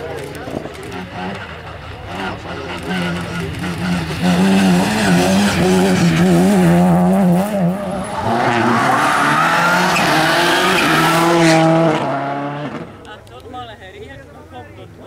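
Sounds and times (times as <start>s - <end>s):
turbocharged car engine approaching: 0.0s - 13.0s
rally car engine revving hard: 0.8s - 13.0s.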